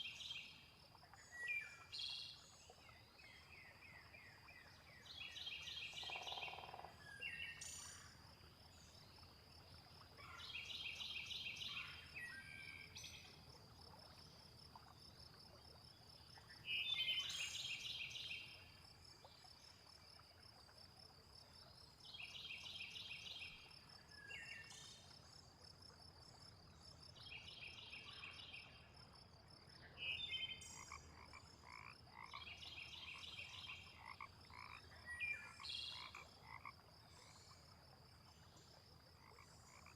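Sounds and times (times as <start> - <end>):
frogs croaking: 2.7 - 39.9.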